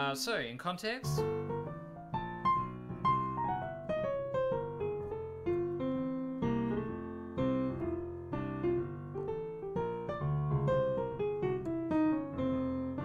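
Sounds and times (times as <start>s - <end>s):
jazz piano: 1.0s - 13.0s.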